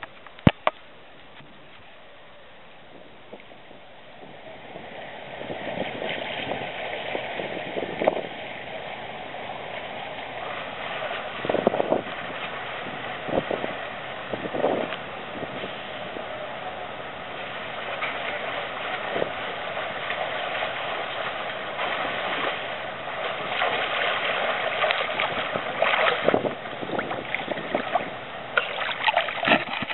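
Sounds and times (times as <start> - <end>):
pool water splashing: 0.0 - 29.9.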